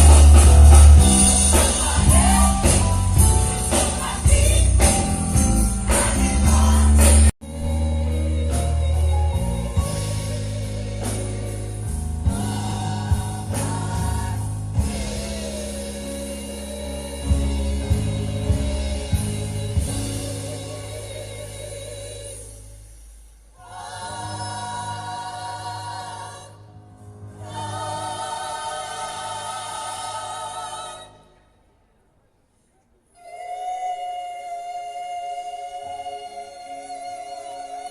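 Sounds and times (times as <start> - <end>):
gospel choir singing: 0.0 - 22.9, 23.6 - 31.6, 33.2 - 37.9.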